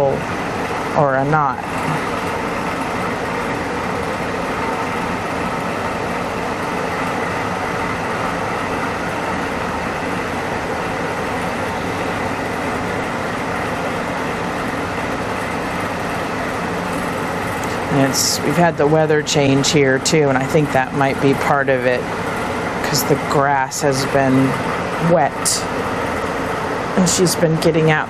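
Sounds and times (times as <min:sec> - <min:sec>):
electric blower running: 0:00.0 - 0:28.0.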